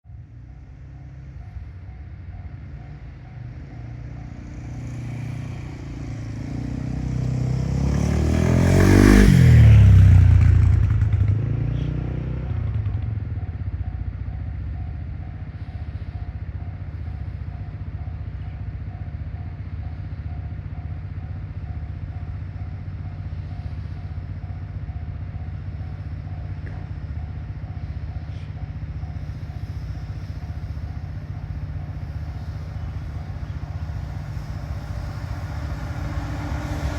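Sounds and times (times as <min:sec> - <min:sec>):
electric locomotive passing: 0:00.1 - 0:36.9
freight wagons rumbling past: 0:00.1 - 0:36.9
level crossing warning bell: 0:00.4 - 0:07.6, 0:13.2 - 0:36.9.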